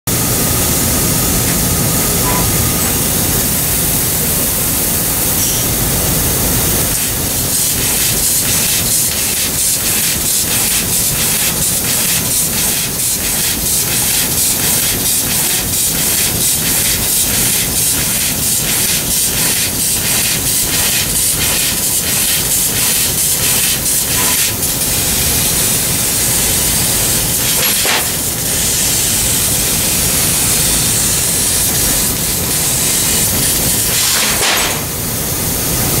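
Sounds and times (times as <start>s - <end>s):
laser cutter jet hissing: 0.1s - 36.0s.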